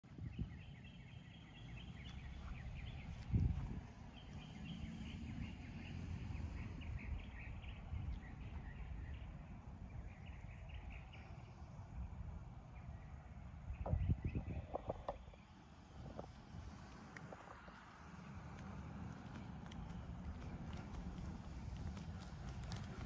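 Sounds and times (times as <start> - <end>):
low steady rumble: 0.0 - 23.0
small birds chirping: 0.1 - 11.8, 12.7 - 23.0.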